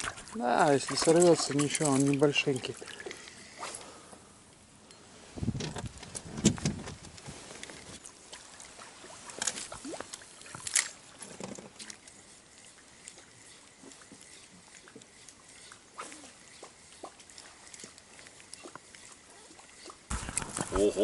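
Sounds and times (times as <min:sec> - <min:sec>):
water sloshing against boat: 0:00.0 - 0:04.3, 0:05.4 - 0:21.0.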